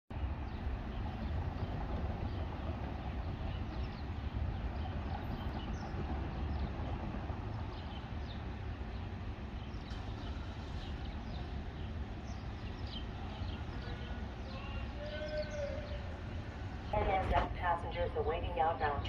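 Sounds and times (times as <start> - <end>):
steady low rumble: 0.1 - 19.0
small birds chirping: 0.2 - 19.0.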